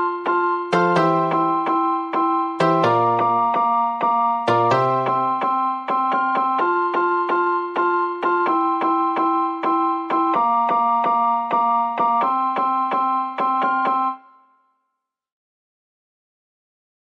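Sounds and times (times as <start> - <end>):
keyboard tune over held chords: 0.0 - 14.4.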